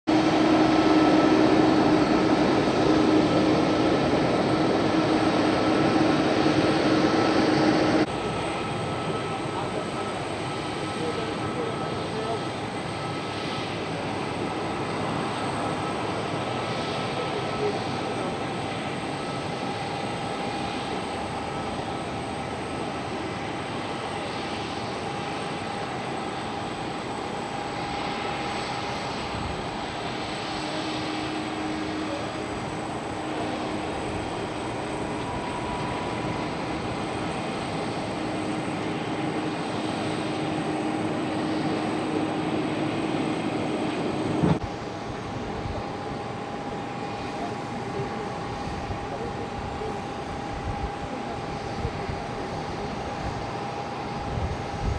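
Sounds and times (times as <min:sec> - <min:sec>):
airliner engines whining: 0:00.0 - 0:54.9.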